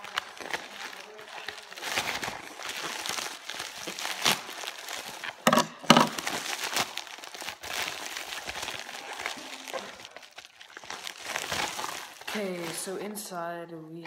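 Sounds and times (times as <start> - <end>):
sharp ripping: 0.0 - 12.9
packing material crinkling: 0.0 - 13.2.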